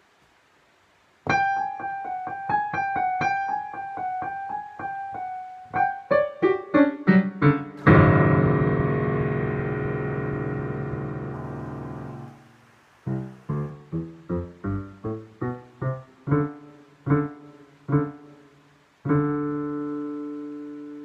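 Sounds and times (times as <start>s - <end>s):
digital piano playing: 1.3s - 12.5s, 13.1s - 21.0s.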